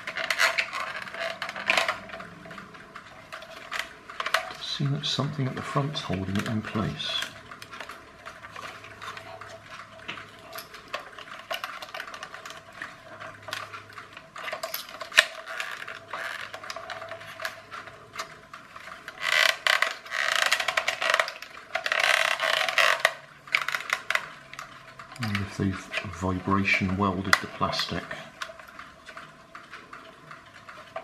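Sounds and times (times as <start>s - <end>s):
screwdriver scraping and rattling: 0.0s - 26.2s
plastic toy clicks and knocks: 0.0s - 31.0s.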